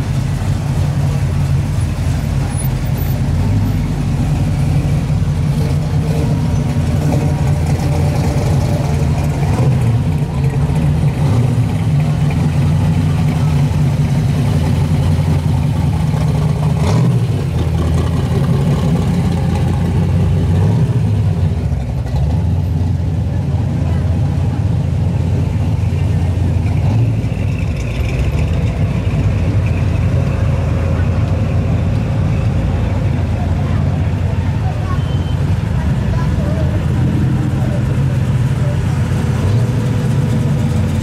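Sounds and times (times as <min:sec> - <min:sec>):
cars rumbling past: 0:00.0 - 0:41.0.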